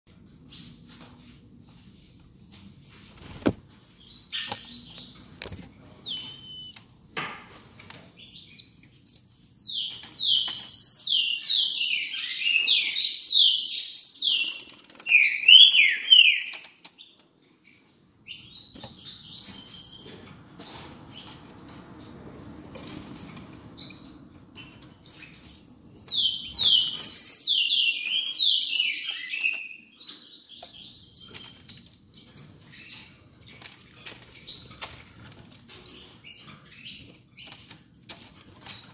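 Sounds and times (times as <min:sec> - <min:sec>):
songbirds chirping: 0:00.1 - 0:38.9.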